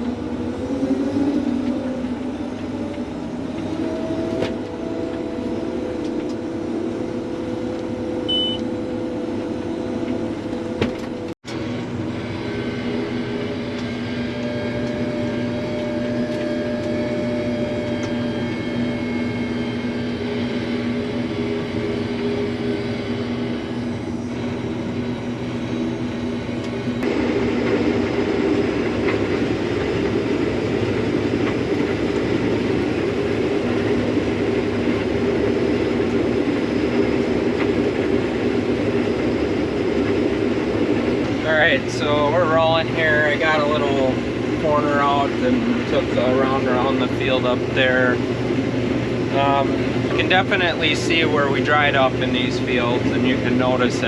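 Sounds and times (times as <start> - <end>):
engine drone with rattling clatter: 0.0 - 54.0
vehicle engine running: 4.5 - 54.0.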